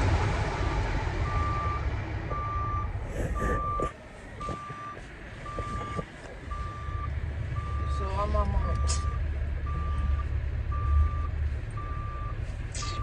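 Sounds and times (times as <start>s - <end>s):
low engine rumble: 0.0s - 13.0s
vehicle backup alarm beeping: 1.2s - 13.0s.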